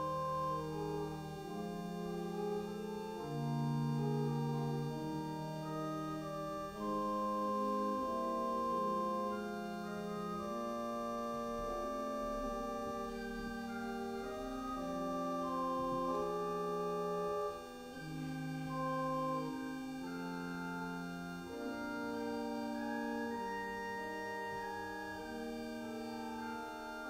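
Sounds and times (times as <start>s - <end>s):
organ playing sustained chords: 0.0s - 27.0s.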